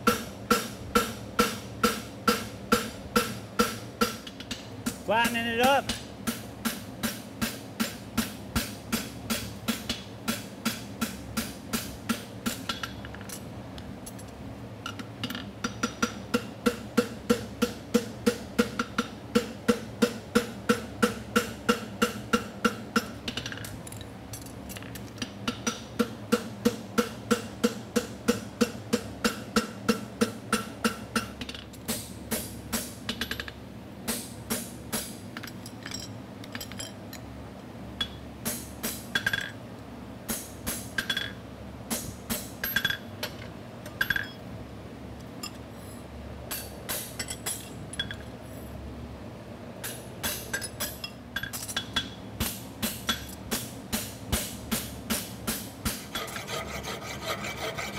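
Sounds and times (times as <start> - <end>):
fan humming: 0.0 - 18.6, 19.2 - 57.9.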